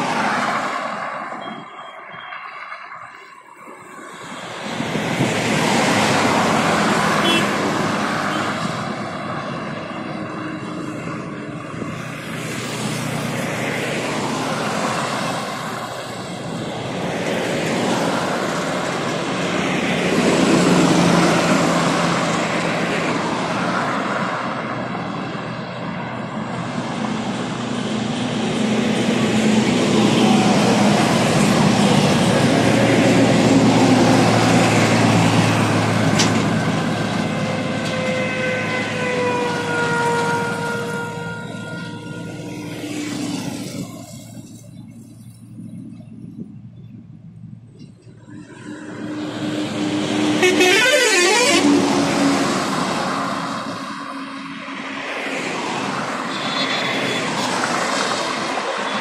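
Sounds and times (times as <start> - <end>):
highway traffic passing: 0.0 - 59.0
tractor diesel engine: 0.0 - 59.0.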